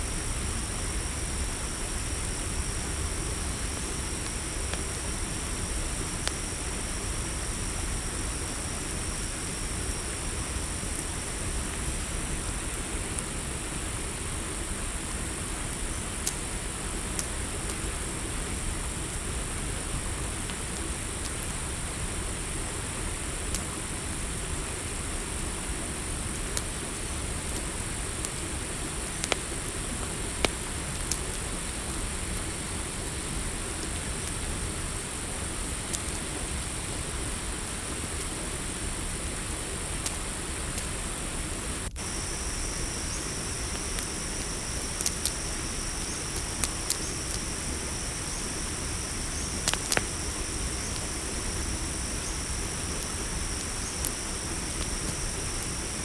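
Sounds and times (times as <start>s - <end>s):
crickets chirring: 0.0s - 56.0s
campfire crackling and popping: 0.1s - 56.0s.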